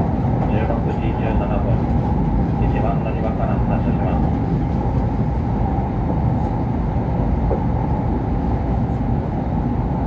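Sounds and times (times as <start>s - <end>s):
train running low rumble: 0.0s - 10.0s.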